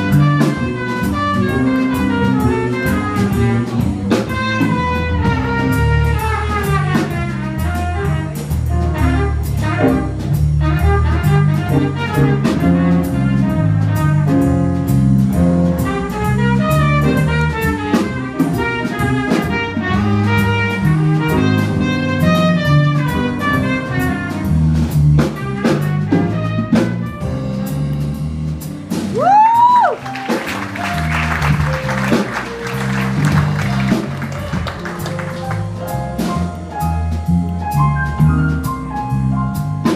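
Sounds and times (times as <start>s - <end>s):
jazz band playing: 0.0s - 39.9s.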